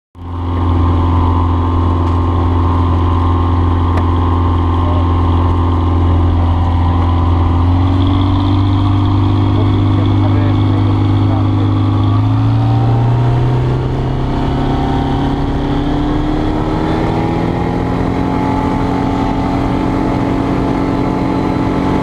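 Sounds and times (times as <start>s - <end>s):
light aircraft engine and propeller: 0.2s - 22.0s.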